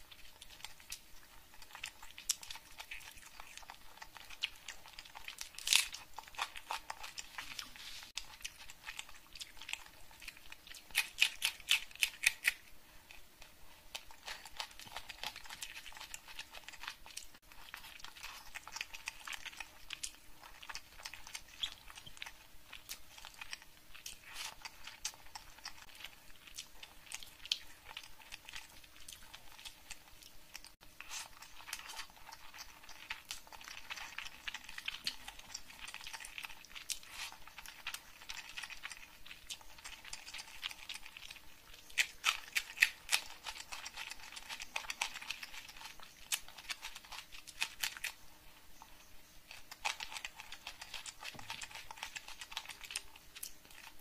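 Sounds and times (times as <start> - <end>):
crunching and chewing of onion: 0.0 - 54.0
wet chewing and mouth sounds: 0.0 - 54.0.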